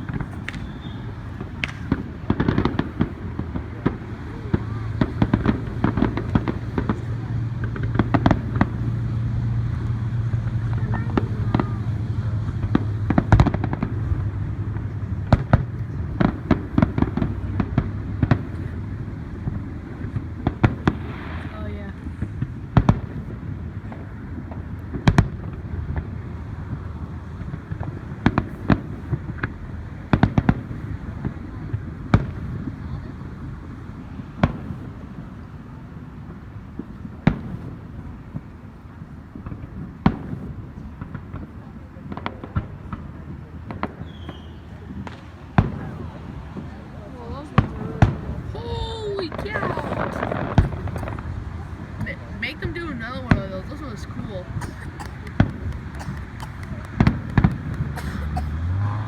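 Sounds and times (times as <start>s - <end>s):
fireworks popping and cracking: 0.0s - 58.8s.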